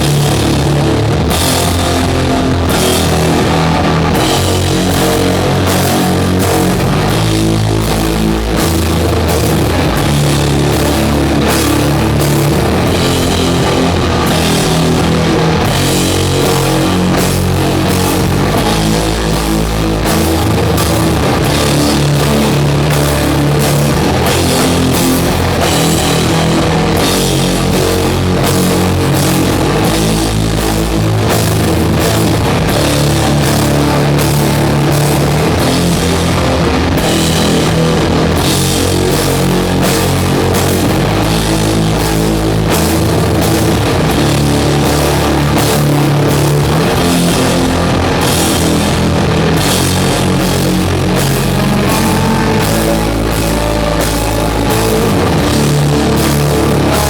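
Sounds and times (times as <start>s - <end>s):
distorted guitars and bass: 0.0s - 57.0s
drum kit and cymbals: 0.0s - 57.0s.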